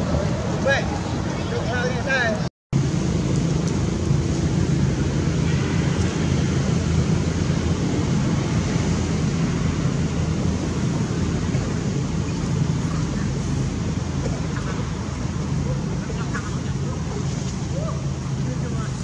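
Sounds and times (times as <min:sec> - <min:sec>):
constant hum: 0:00.0 - 0:19.0.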